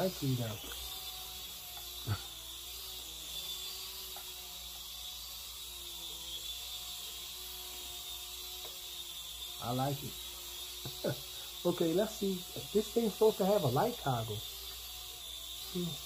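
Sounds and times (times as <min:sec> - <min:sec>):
toy helicopter motor humming: 0:00.0 - 0:16.0.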